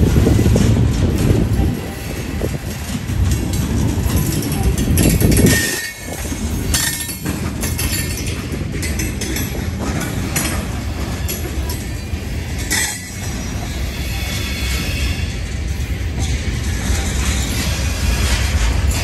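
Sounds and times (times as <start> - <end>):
freight train wheels rumbling: 0.0 - 19.0
wheels clanking over rail joints: 0.0 - 19.0.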